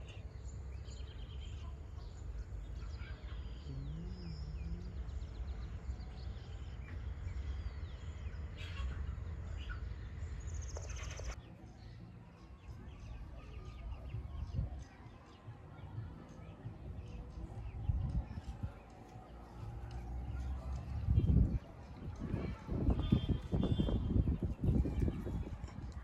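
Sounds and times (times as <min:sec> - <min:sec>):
birds chirping: 0:00.0 - 0:25.4.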